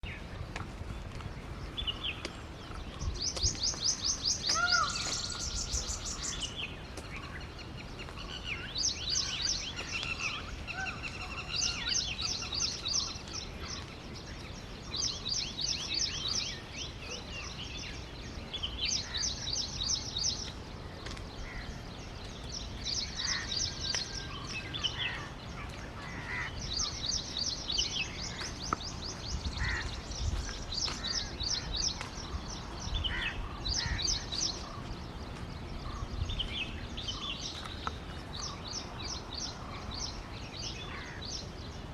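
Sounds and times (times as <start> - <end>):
small birds trilling: 1.2 - 41.9.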